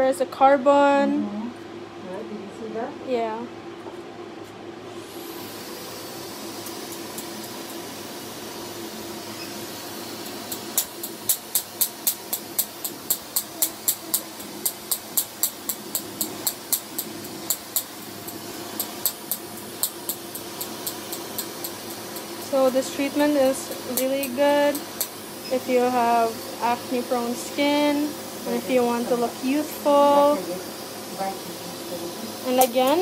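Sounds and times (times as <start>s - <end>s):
laser unit hiss and hum: 4.9s - 33.0s.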